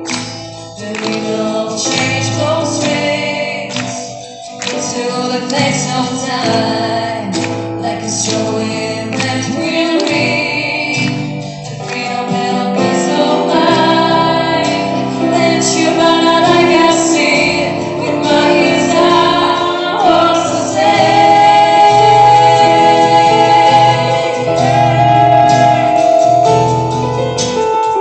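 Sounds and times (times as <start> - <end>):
instrumental backing: 0.0 - 28.0
women singing rock ballad: 0.8 - 26.2.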